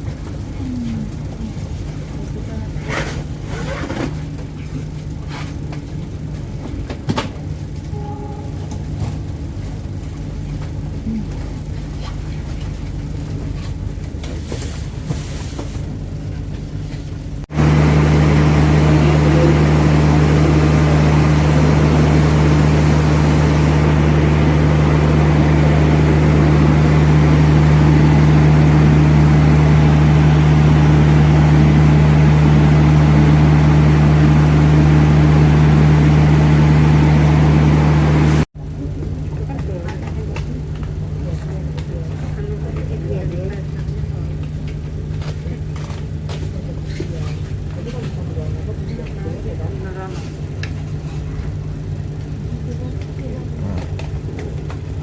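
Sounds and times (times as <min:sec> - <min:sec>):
train rumble: 0:00.0 - 0:37.6, 0:38.2 - 0:55.0
diesel engine drone: 0:00.0 - 0:55.0.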